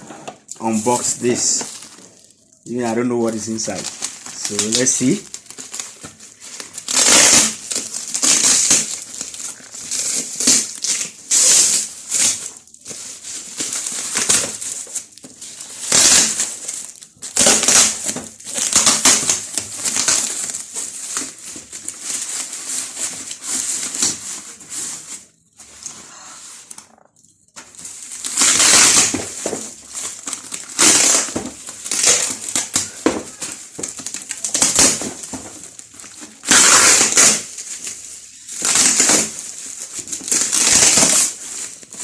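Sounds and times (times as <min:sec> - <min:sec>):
packaging crinkling and rustling: 0:00.0 - 0:42.0.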